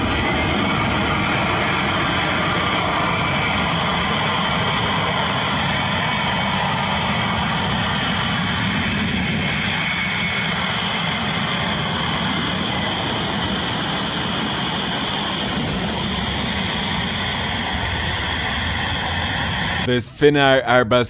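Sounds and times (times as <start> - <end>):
jet engines in reverse thrust: 0.0 - 20.0.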